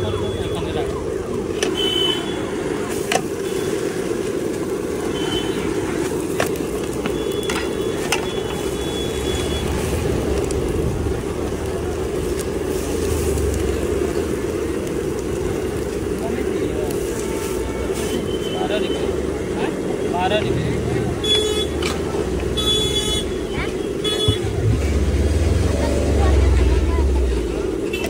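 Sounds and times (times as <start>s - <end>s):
gas burner roaring: 0.0s - 28.0s.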